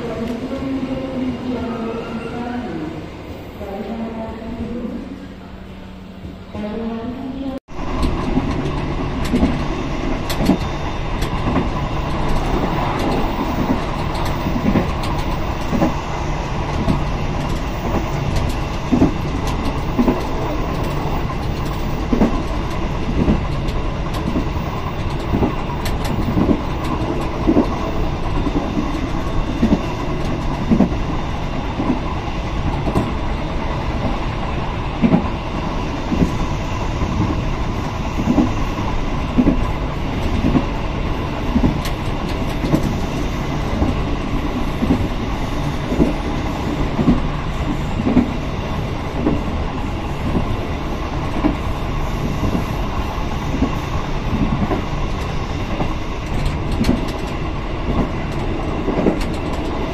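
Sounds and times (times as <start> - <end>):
train wheels rumbling on rail: 0.0 - 59.9
rail joints clacking: 7.8 - 59.9.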